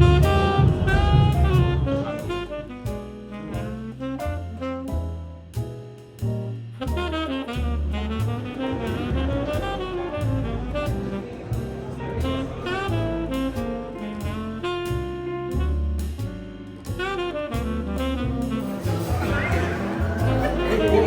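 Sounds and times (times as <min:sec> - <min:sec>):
saxophone melody: 0:00.0 - 0:05.1, 0:06.8 - 0:21.0
bass: 0:00.0 - 0:21.0
drums: 0:00.0 - 0:21.0.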